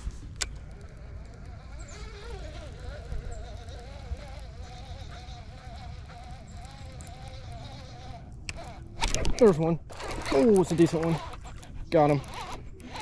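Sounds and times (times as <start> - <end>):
fishing reel buzzing whir: 0.0 - 13.0.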